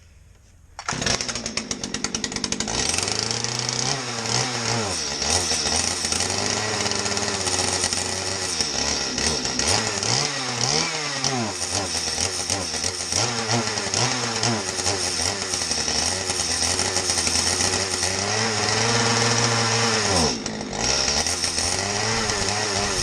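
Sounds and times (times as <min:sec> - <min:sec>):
chainsaw engine revving: 0:00.8 - 0:23.0.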